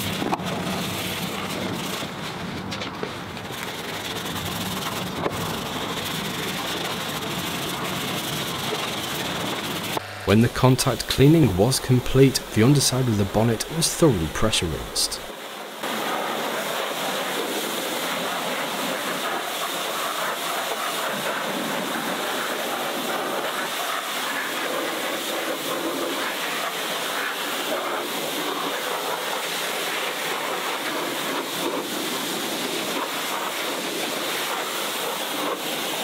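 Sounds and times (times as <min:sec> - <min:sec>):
pressure washer spraying: 0:05.4 - 0:36.0.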